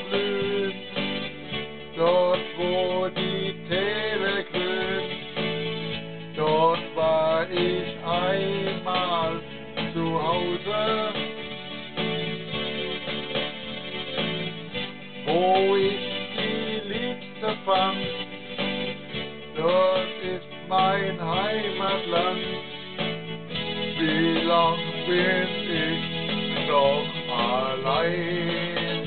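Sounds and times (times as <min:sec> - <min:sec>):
electronic keyboard music: 0:00.0 - 0:29.0.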